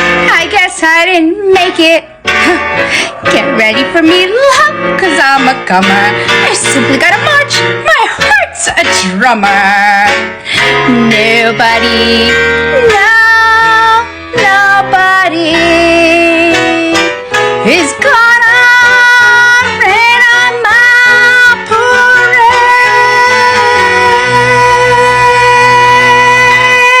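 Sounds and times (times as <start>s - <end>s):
woman singing show tune: 0.1s - 27.0s.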